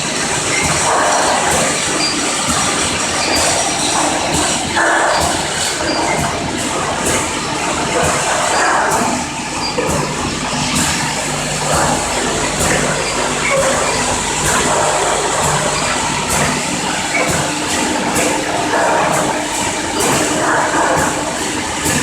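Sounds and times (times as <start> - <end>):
filling machine humming: 0.0 - 22.0
machine clatter and clicks: 0.0 - 22.0.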